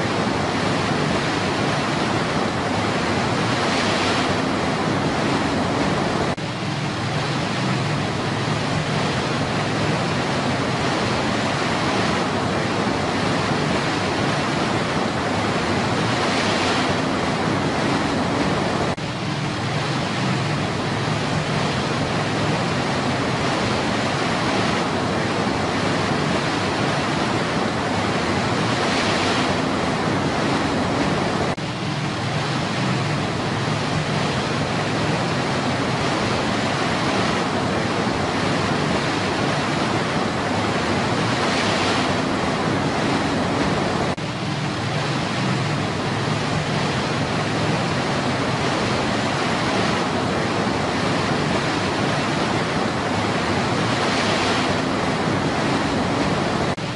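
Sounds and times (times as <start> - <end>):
river rapids rushing over rocks: 0.0 - 56.9.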